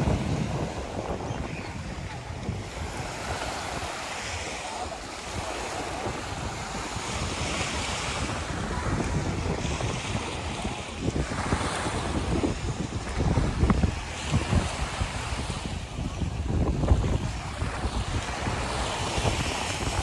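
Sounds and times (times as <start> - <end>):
waves washing up shore: 0.0 - 20.0
wind on microphone: 0.0 - 20.0.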